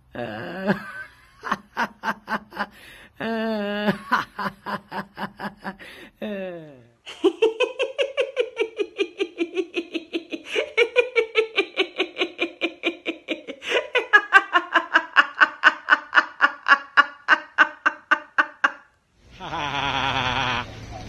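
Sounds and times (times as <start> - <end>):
woman laughing: 0.2 - 20.6.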